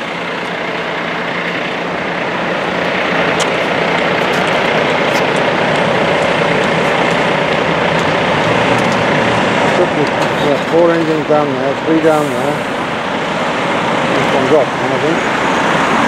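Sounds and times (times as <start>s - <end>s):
street traffic with engines: 0.0s - 16.0s.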